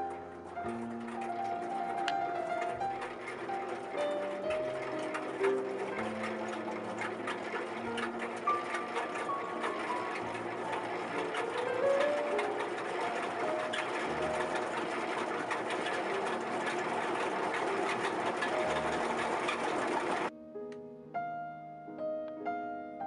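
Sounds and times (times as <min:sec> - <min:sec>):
honey extractor whirring and rattling: 0:00.0 - 0:20.3
piano music: 0:00.0 - 0:23.0.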